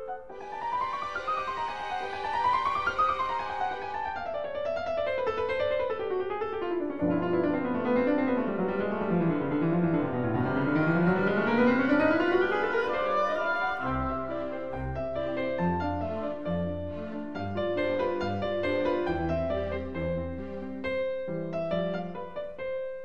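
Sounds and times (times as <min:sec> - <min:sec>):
solo piano classical music: 0:00.0 - 0:23.0.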